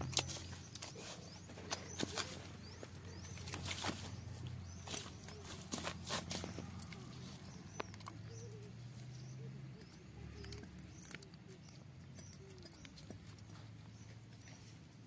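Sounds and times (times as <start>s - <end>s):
distant birds calling: 0.0s - 15.0s.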